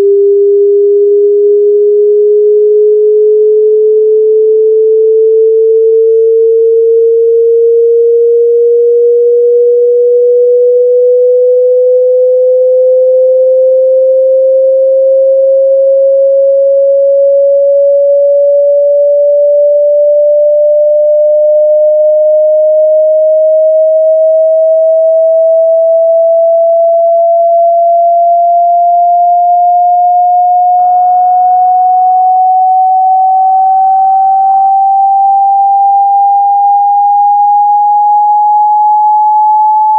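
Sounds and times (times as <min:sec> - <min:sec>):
rising sine tone sweep: 0:00.0 - 0:39.9.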